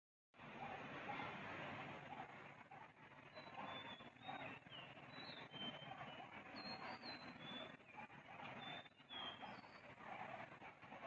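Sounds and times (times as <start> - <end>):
faint jungle ambience: 0.4 - 11.0.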